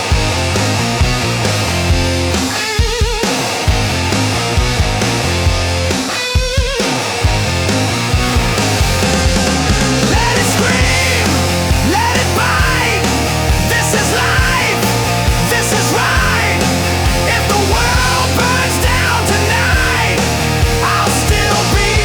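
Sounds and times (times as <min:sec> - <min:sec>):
loud hard rock music: 0:00.0 - 0:22.0.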